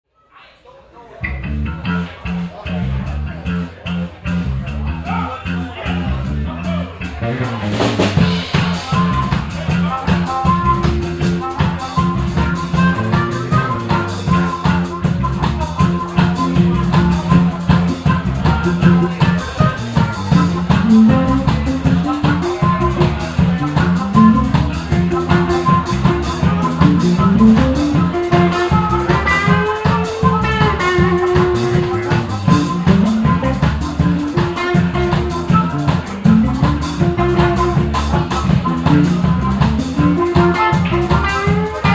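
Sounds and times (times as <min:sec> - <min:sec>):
drum kit: 0:01.2 - 0:41.9
electric guitar: 0:01.2 - 0:41.9.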